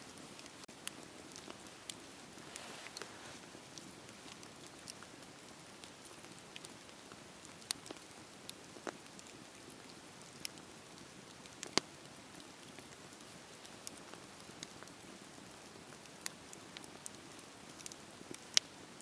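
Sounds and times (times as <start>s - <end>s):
wood fire crackling: 0.1s - 19.0s.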